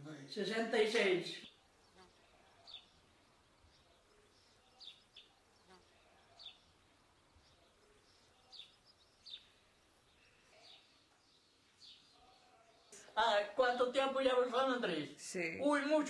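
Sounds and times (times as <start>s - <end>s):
small birds chirping: 0.0s - 14.4s.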